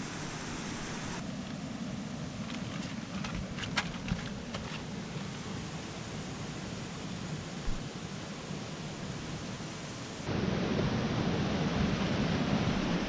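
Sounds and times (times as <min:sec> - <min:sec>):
creek rushing: 0:00.0 - 0:03.6, 0:04.3 - 0:13.0.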